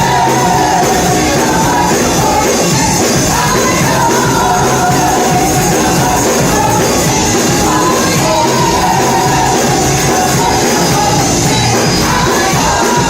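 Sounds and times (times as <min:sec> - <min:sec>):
gospel band playing with singing: 0:00.0 - 0:13.0.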